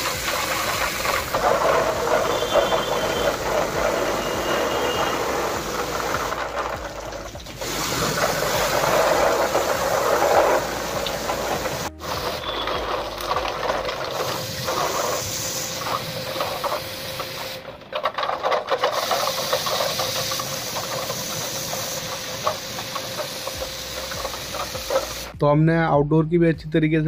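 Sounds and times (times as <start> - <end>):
water spray hissing on condenser unit: 0.0 - 25.4.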